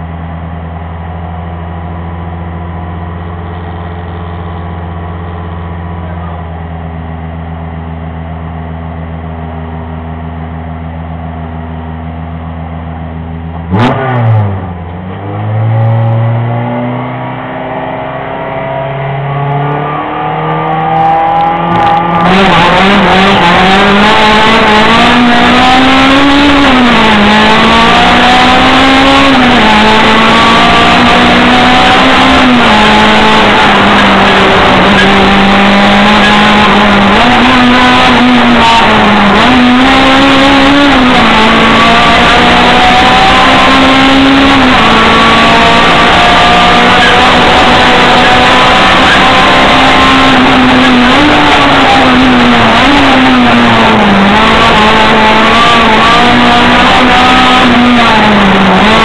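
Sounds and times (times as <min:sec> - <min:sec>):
race car engine revving: 0:01.3 - 0:59.0.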